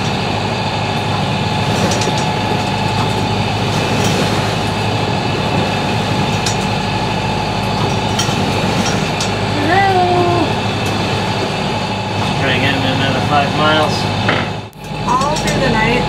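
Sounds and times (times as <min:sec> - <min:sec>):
low steady hum: 0:00.0 - 0:16.0
wind and water rushing: 0:00.0 - 0:16.0.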